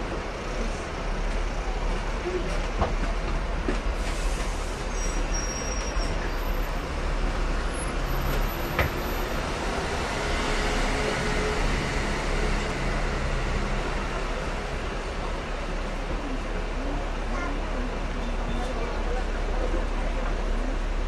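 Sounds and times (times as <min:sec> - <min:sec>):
tram rumbling: 0:00.0 - 0:21.0.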